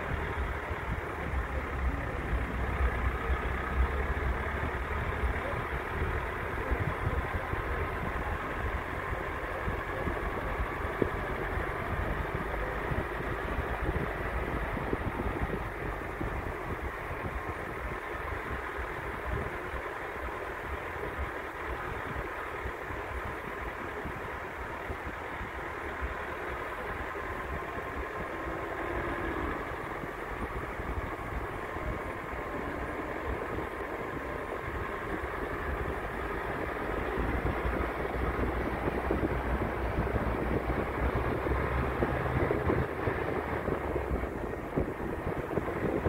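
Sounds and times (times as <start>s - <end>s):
engine low rumble: 0.0s - 46.0s.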